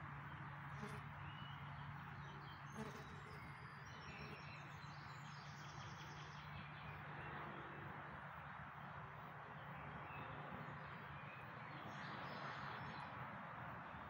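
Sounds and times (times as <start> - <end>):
faint birdsong chirps and trill: 0.0 - 14.0.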